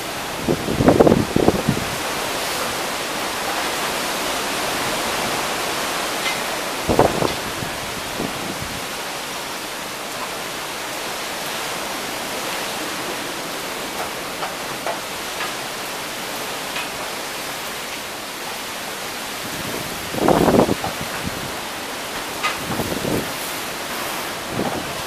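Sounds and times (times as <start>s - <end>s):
heavy rain: 0.0s - 25.0s
strong wind gusts: 0.0s - 25.0s.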